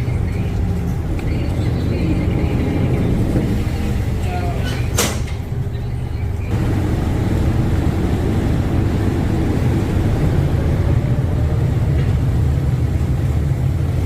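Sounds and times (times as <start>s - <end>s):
boat engines rumbling: 0.0s - 14.0s.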